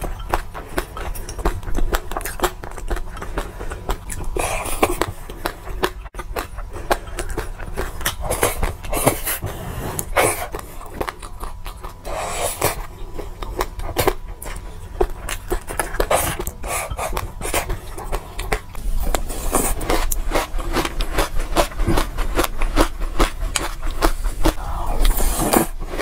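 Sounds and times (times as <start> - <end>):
chewing seeds: 0.0 - 26.0.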